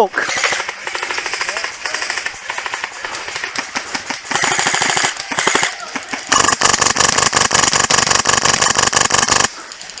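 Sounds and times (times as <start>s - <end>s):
airsoft rifle firing bursts: 0.3s - 9.6s.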